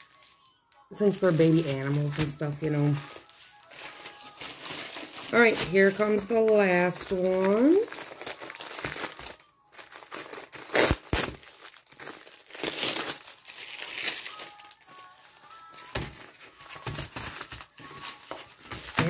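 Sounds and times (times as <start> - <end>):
paper crinkling and rustling: 0.0 - 19.0.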